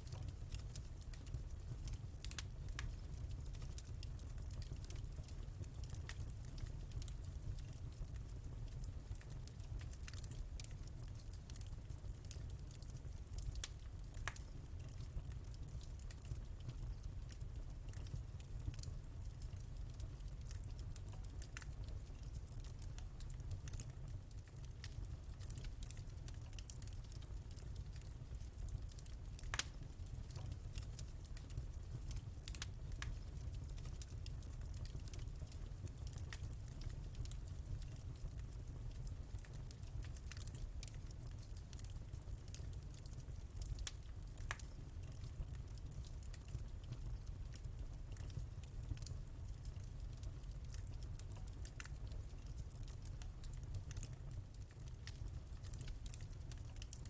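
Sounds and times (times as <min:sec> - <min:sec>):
fire rumble and hiss: 0:00.0 - 0:57.0
wood fire crackling: 0:00.0 - 0:57.0.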